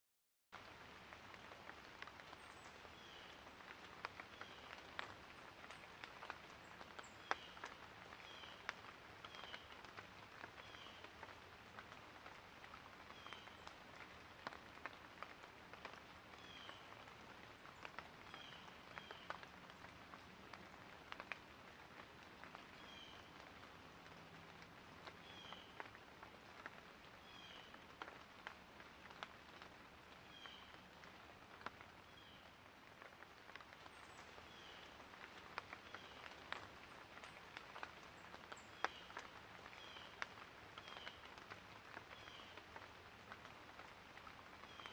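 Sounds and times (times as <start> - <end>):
rain hiss: 0.6 - 44.9
raindrops ticking: 0.6 - 44.9.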